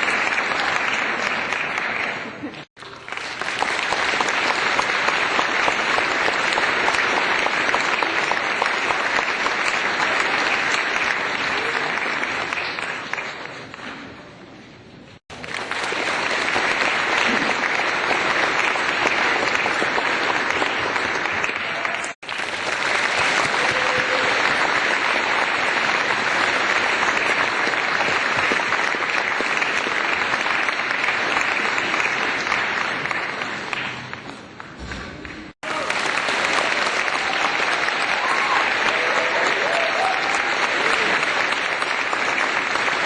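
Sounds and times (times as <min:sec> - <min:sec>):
applause: 0:00.0 - 0:14.3, 0:15.2 - 0:43.0.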